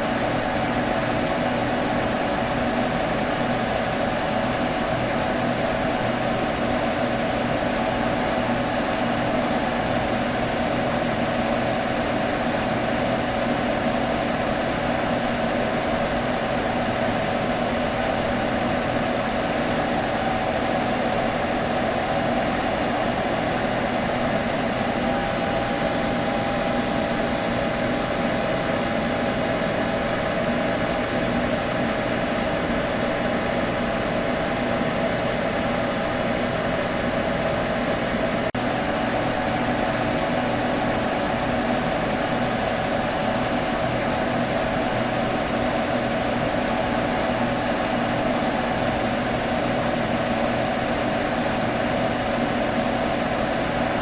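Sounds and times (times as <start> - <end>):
computer humming whir: 0.0 - 54.0.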